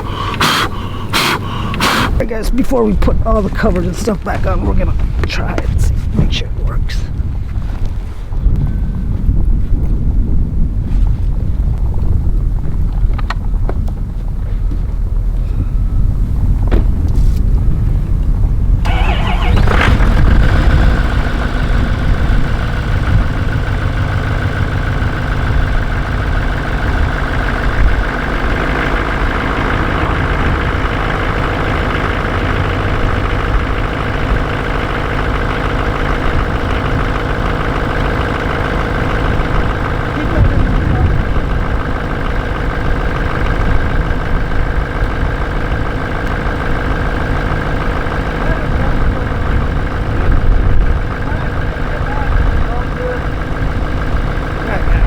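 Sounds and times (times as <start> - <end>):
diesel engine idling: 0.0 - 55.0
diesel truck engine starting: 0.0 - 55.0.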